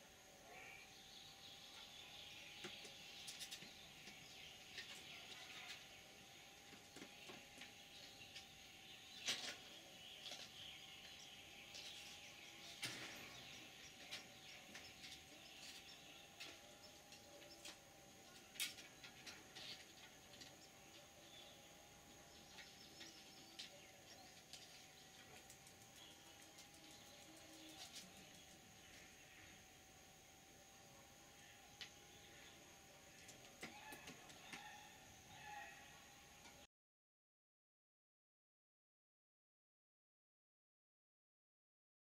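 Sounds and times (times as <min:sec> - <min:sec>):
distant birds chirping: 0:00.0 - 0:36.7
faint steady tone: 0:00.0 - 0:36.7.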